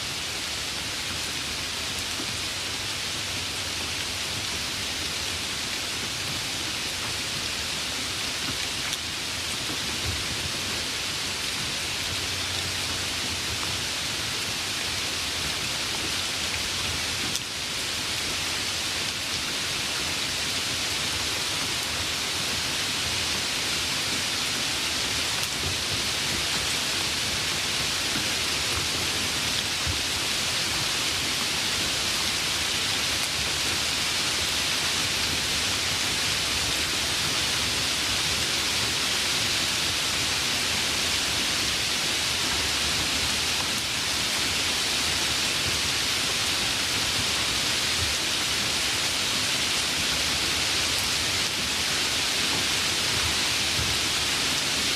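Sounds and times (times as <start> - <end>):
rain hiss: 0.0 - 54.9.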